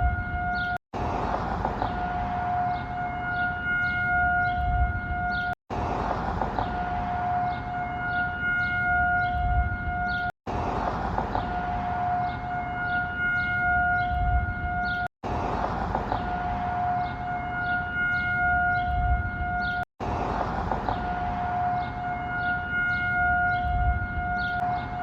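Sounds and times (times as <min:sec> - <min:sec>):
tornado warning siren: 0:00.0 - 0:25.0.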